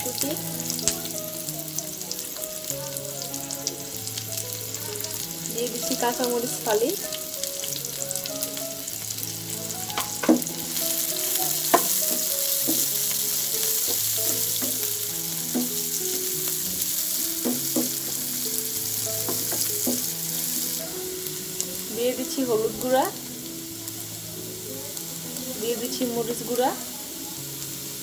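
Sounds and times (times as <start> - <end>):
vegetables sizzling in hot oil: 0.0 - 28.0.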